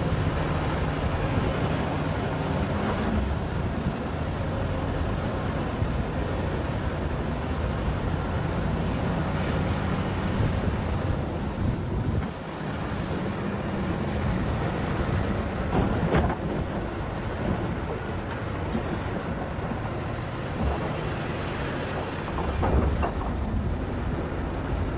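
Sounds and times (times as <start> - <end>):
excavator diesel engine under load: 0.0 - 24.9.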